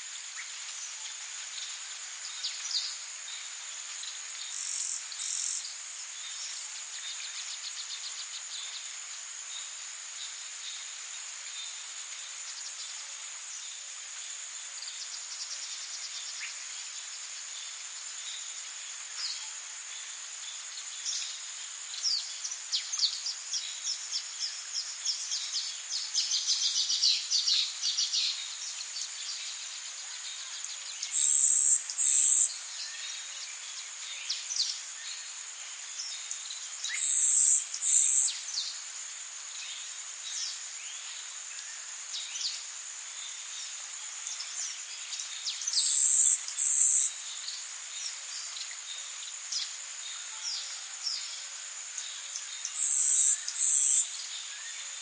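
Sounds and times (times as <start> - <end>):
high insect drone: 0.1 - 55.0.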